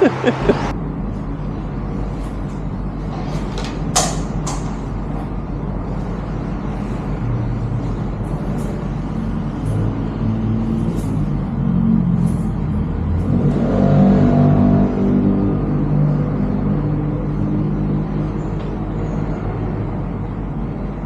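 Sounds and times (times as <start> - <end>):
vehicle engine and traffic hum: 0.0 - 21.0.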